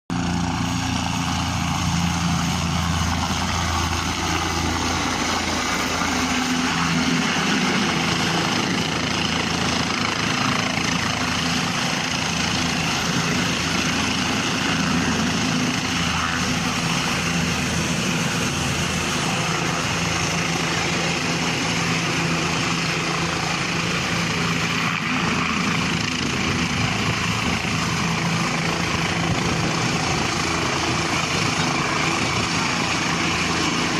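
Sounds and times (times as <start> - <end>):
helicopter rotor and turbine: 0.1 - 33.9.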